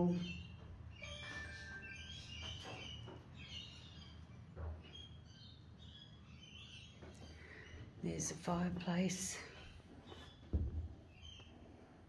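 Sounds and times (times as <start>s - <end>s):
faint bird chirps and calls: 0.0s - 11.8s.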